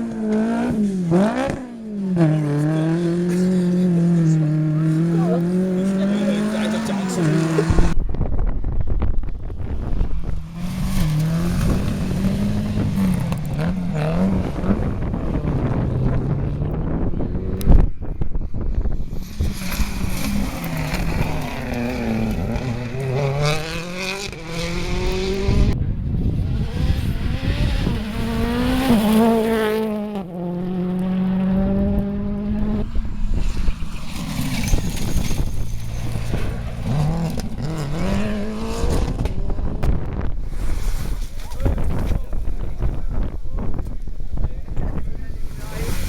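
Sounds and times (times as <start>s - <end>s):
rally car engines revving: 0.0s - 8.4s, 9.2s - 46.0s.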